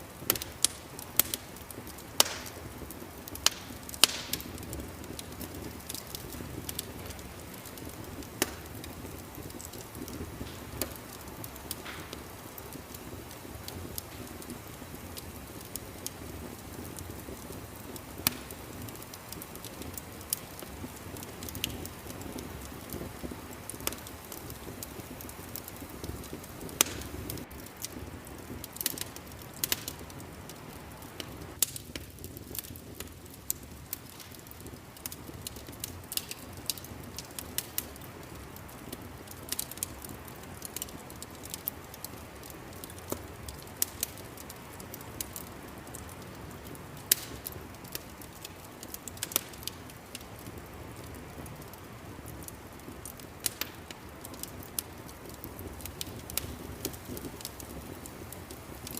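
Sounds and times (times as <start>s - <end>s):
low steady fire rumble: 0.0s - 58.9s
wood fire crackling: 0.0s - 58.9s.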